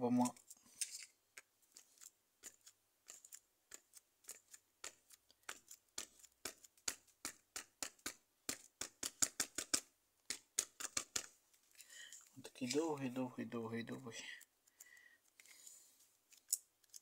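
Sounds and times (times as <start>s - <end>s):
hands kneading modelling clay: 0.0s - 17.0s.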